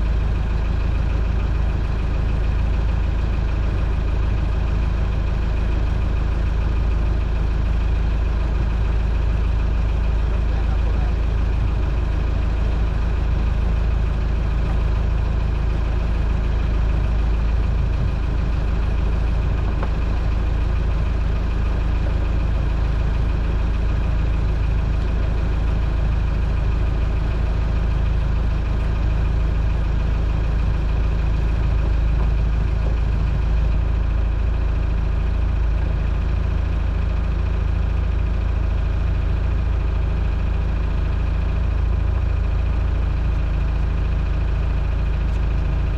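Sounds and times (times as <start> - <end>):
boat engine idling: 0.0 - 45.9.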